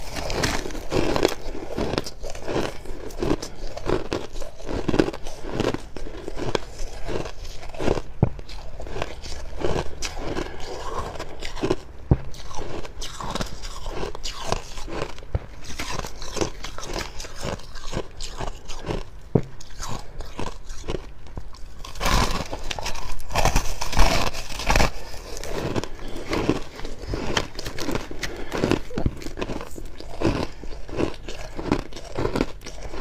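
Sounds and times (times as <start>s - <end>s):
chewing frost crunches: 0.0s - 33.0s.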